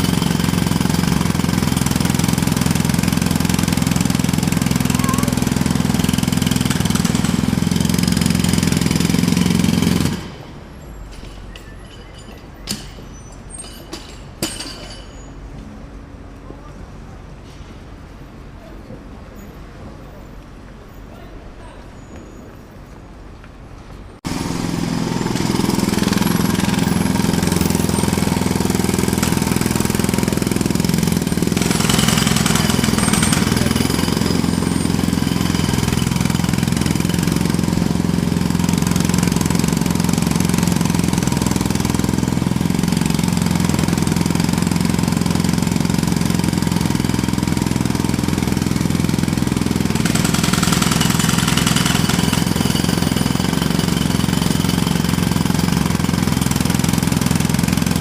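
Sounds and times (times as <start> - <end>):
jackhammer hammering: 0.0 - 15.2, 24.2 - 58.0.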